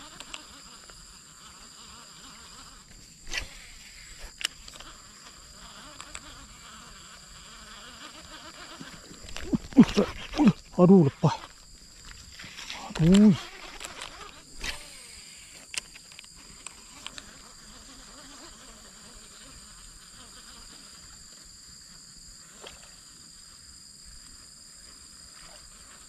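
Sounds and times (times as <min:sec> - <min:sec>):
insects calling: 0:00.0 - 0:26.0.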